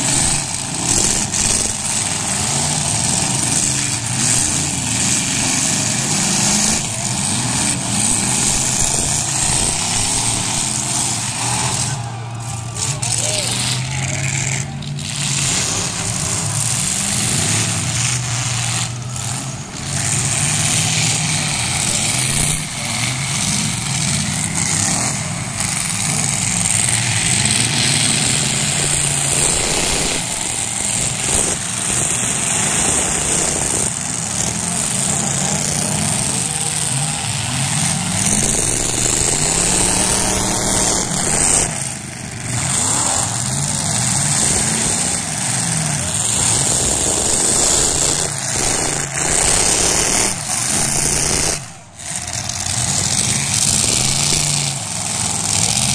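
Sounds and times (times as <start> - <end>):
car engines revving: 0.0 - 55.9
cars crashing together: 0.0 - 55.9.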